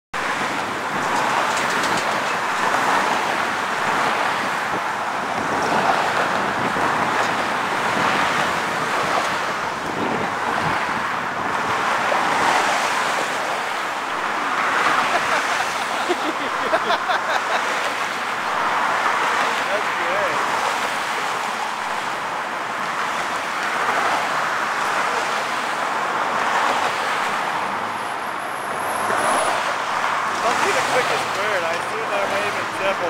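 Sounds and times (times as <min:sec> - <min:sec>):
cars passing: 0:00.2 - 0:33.0.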